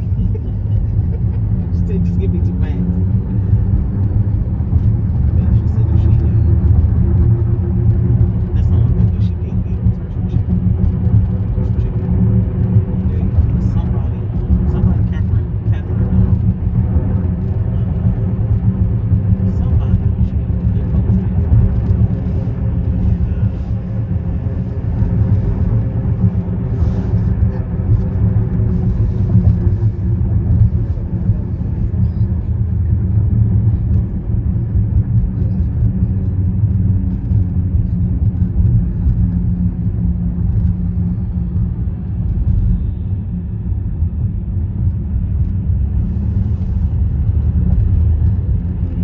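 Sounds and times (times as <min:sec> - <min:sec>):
car tyres rumbling on concrete: 0:00.0 - 0:43.0, 0:44.7 - 0:49.0.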